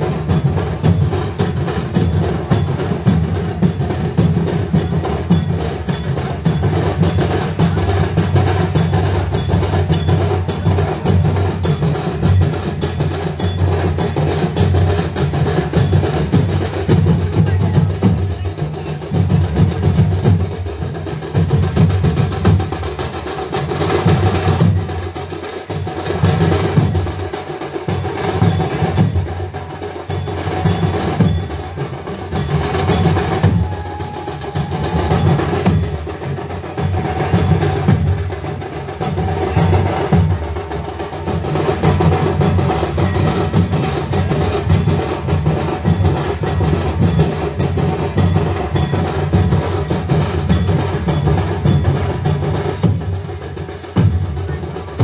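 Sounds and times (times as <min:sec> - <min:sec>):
drums playing fast beat: 0:00.0 - 0:55.0.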